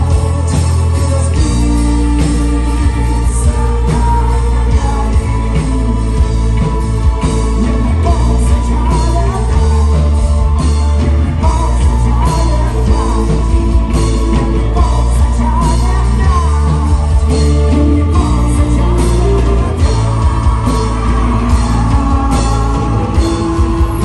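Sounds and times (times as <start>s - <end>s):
electric guitars: 0.0s - 24.0s
man singing: 0.0s - 24.0s.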